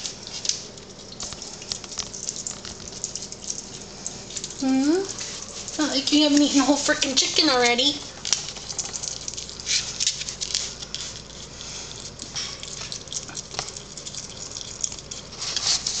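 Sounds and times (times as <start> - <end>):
animal chewing with jaw clicks: 0.0 - 16.0.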